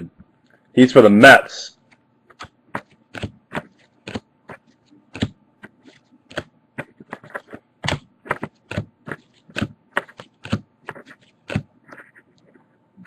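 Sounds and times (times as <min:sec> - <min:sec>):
trading cards being flipped: 0:01.9 - 0:12.6.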